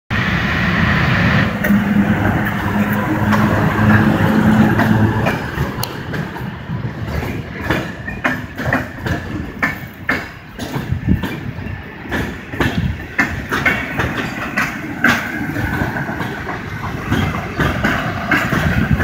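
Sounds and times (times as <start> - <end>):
electric locomotive humming: 0.1 - 19.0
train wheels clunking over rail joints: 1.4 - 19.0.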